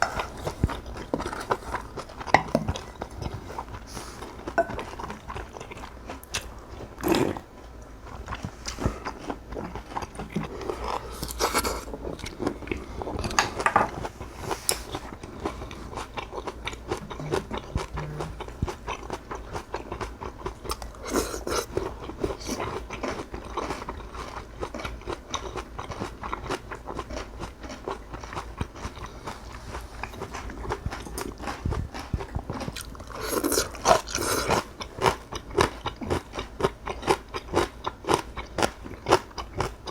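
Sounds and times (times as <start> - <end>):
person chewing and crunching: 0.0 - 39.9.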